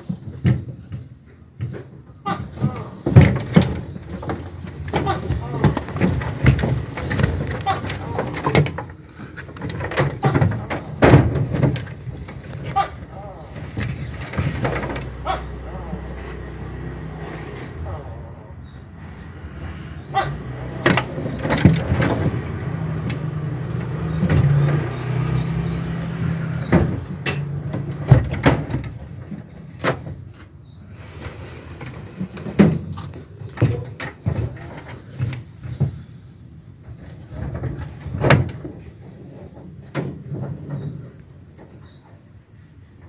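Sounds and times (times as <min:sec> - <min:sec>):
sharp knocks and bumps: 0:00.0 - 0:17.8, 0:19.3 - 0:30.6, 0:31.8 - 0:36.1, 0:36.9 - 0:41.8.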